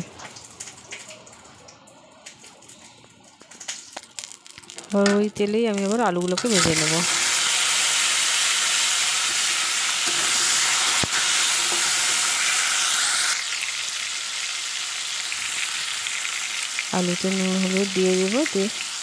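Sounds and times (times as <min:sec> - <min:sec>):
potatoes sizzling in hot oil: 0:03.8 - 0:19.0.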